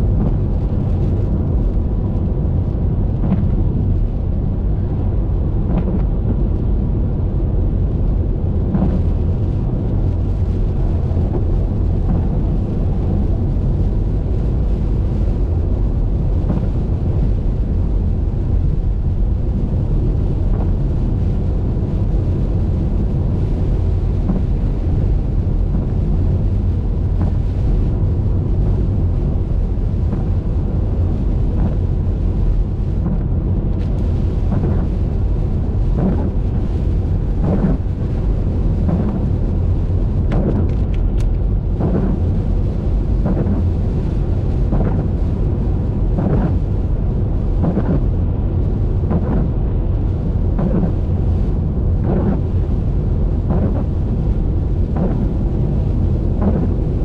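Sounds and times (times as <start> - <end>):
car driving in rain: 0.0 - 57.0.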